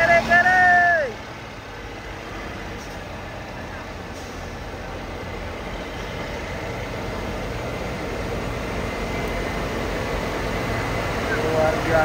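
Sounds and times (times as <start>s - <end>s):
truck diesel engine: 0.0s - 12.0s.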